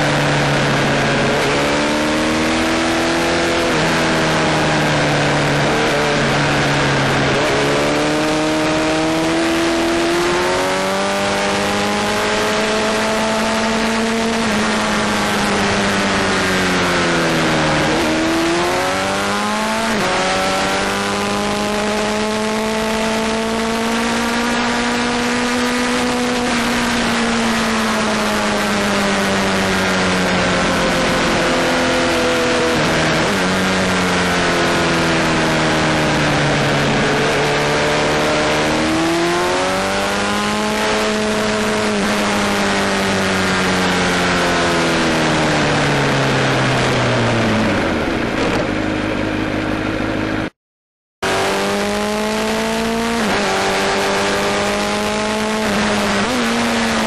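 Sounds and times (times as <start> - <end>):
motorcycle engine revving: 0.0 - 50.6, 51.2 - 57.0.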